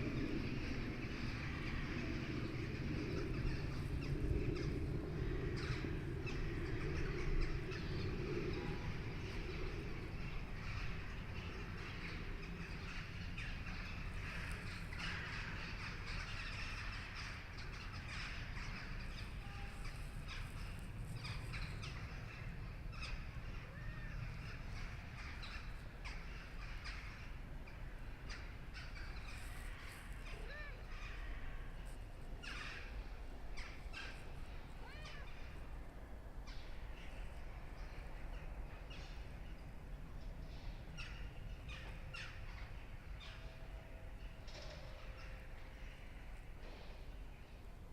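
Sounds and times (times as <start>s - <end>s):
low background noise: 0.0s - 47.9s.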